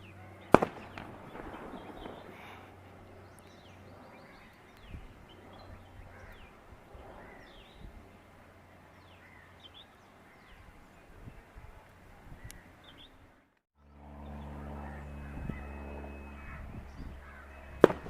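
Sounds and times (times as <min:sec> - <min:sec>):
small birds chirping: 0:00.0 - 0:13.6, 0:14.2 - 0:18.0.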